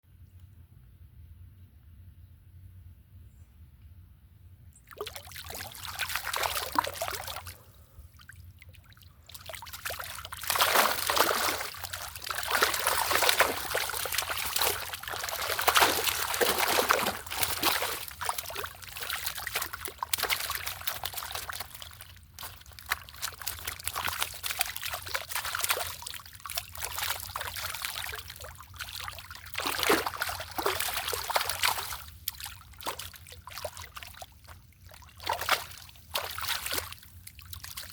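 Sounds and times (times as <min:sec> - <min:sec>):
water splashing and trickling: 0:04.8 - 0:37.9.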